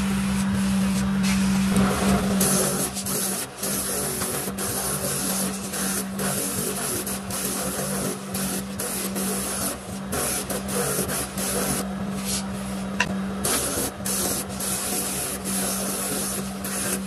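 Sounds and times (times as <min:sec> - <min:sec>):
wood sanding on abrasive wheel: 0:00.0 - 0:12.9, 0:13.5 - 0:17.0.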